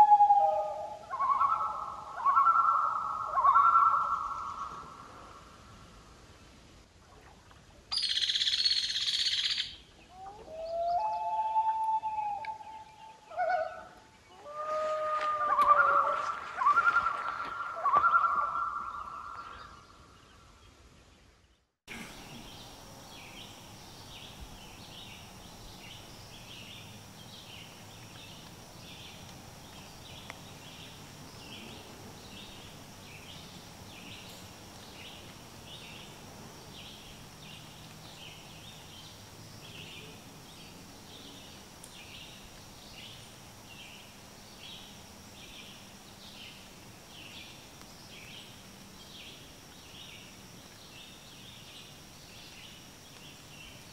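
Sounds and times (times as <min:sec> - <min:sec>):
insects chirping: 0:00.0 - 0:06.7, 0:07.3 - 0:21.1, 0:21.9 - 0:53.9.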